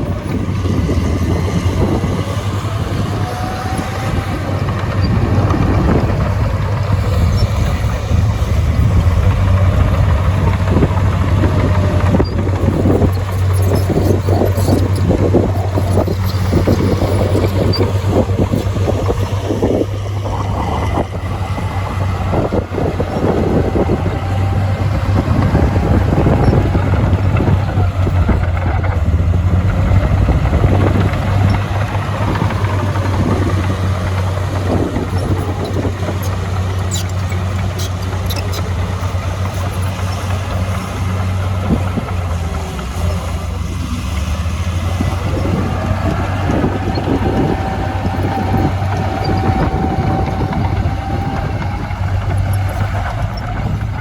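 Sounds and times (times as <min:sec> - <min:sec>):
heavy diesel machinery droning: 0:00.0 - 0:54.0.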